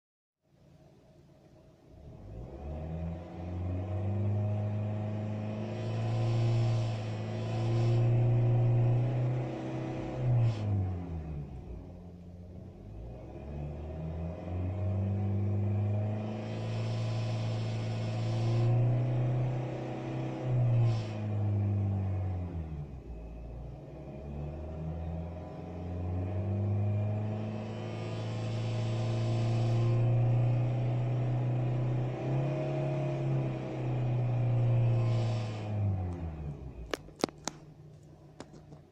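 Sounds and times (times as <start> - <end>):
car engine revving: 1.9 - 38.8.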